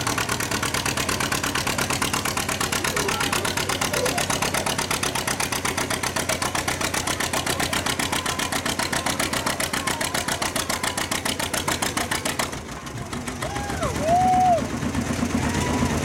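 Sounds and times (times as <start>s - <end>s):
two-cylinder engine popping: 0.0s - 16.0s.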